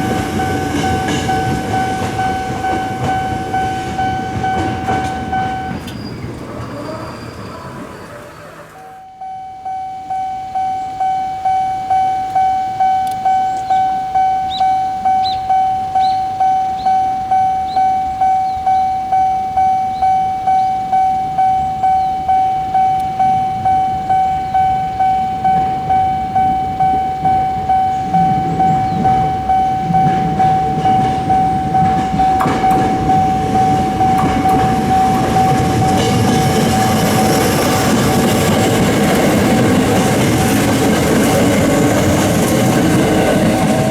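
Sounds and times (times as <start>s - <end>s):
train rumble and wheel clicks: 0.0s - 9.0s, 11.4s - 43.9s
level crossing alarm ringing: 0.0s - 43.9s.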